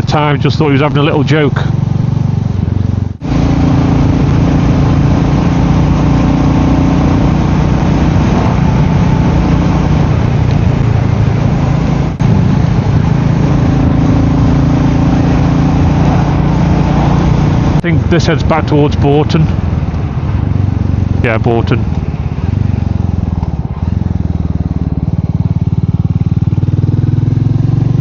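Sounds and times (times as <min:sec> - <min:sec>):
wind noise: 0:00.0 - 0:25.6
motorcycle engine cruising: 0:00.0 - 0:28.0
road noise: 0:00.0 - 0:28.0.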